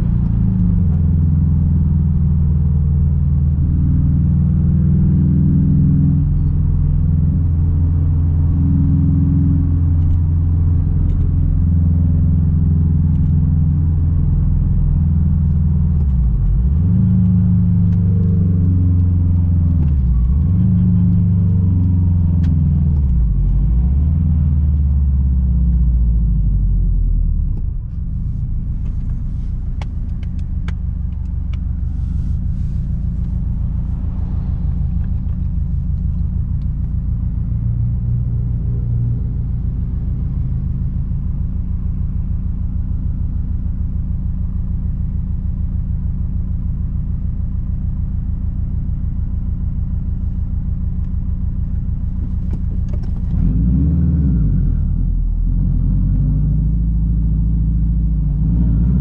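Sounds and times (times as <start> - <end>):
car engine running loud: 0.0 - 25.1, 26.8 - 59.0.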